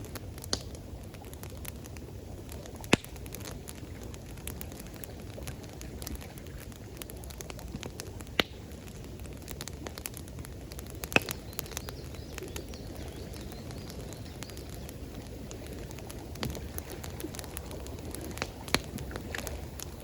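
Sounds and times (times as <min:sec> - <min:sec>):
campfire crackling and popping: 0:00.0 - 0:20.0
flowing water: 0:00.0 - 0:20.0.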